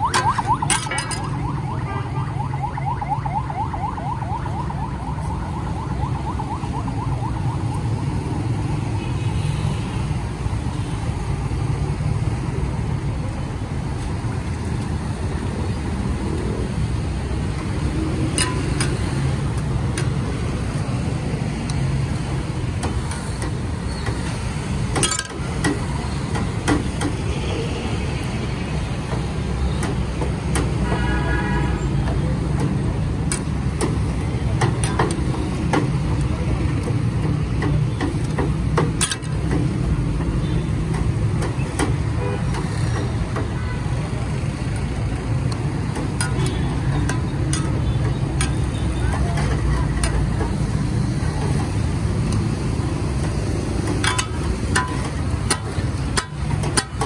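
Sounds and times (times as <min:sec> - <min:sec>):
street traffic: 0:00.0 - 0:57.0.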